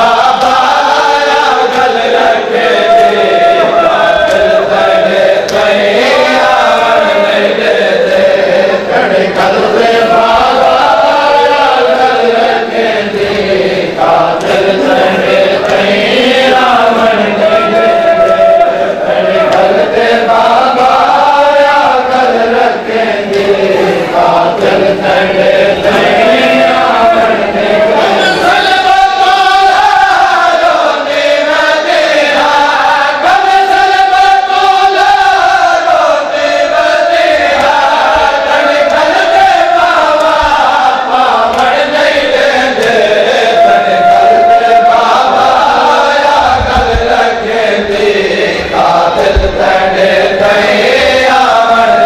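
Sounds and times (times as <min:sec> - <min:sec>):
men chanting together: 0:00.0 - 0:52.0.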